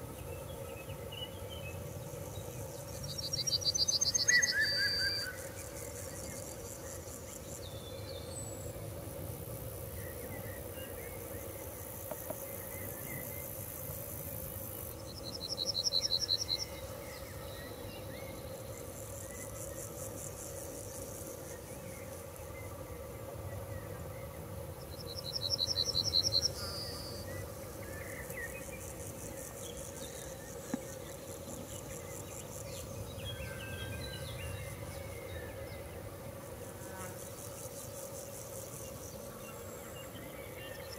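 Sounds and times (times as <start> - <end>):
insects chirring: 0.0 - 40.9
loud pulsed insect chirp: 0.0 - 40.9.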